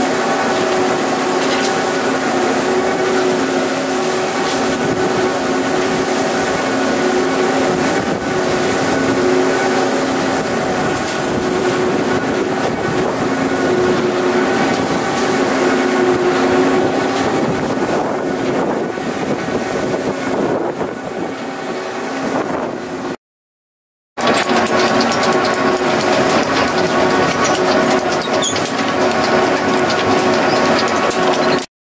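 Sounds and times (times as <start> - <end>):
feed mixer drive turning: 0.0 - 20.7, 24.2 - 31.7
tractor engine running under load: 0.0 - 23.0, 24.2 - 31.7.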